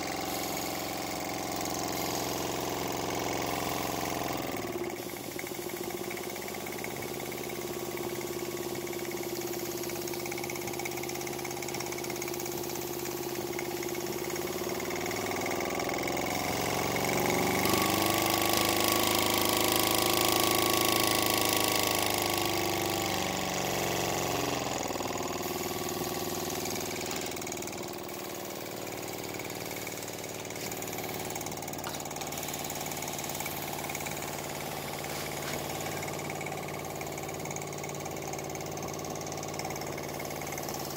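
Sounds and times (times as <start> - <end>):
small steam engine running: 0.0 - 40.9
steam hissing: 0.0 - 40.9.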